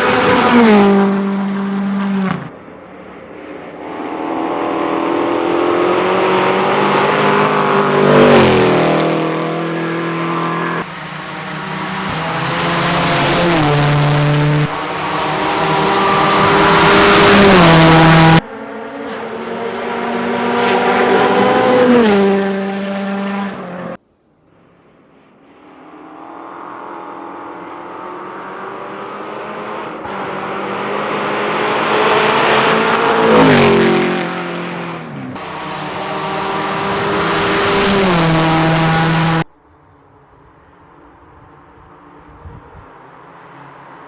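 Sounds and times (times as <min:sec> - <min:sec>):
rally cars passing at speed: 0:00.0 - 0:44.0.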